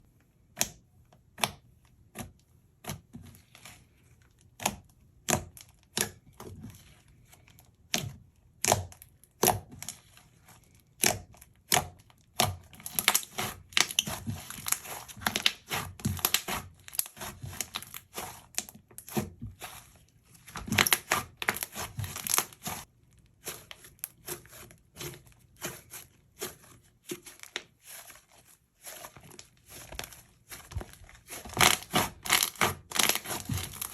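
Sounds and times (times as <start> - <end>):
slime kneaded by hand: 0.3 - 33.9.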